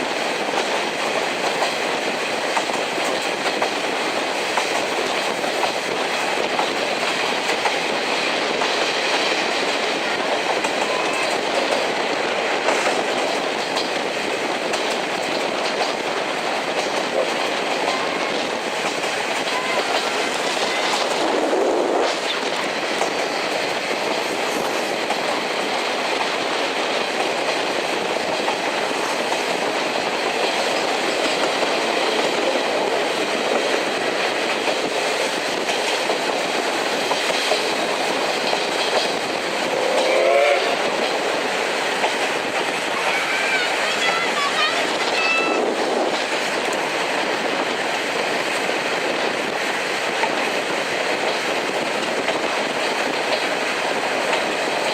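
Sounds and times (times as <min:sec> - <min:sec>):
train wheels clacking on rails: 0:00.0 - 0:54.9.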